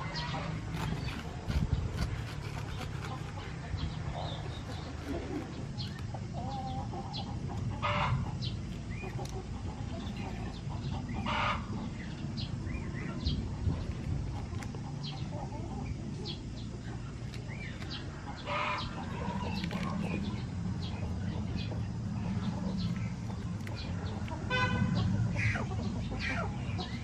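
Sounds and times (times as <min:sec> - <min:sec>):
chickens clucking: 0:00.0 - 0:27.0
small birds chirping: 0:00.0 - 0:27.0.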